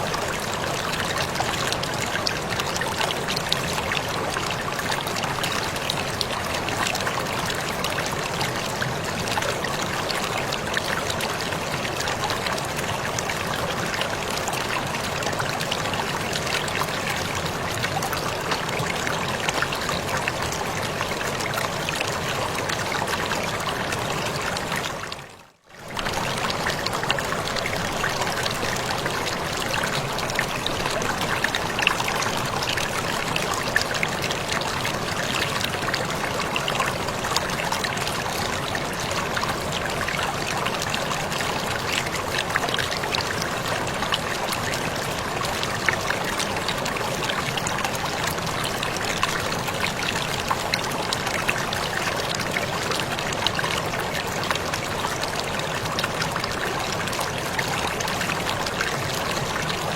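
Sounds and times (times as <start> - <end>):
water splashes and drips: 0.0 - 59.9
waterfall: 0.0 - 59.9.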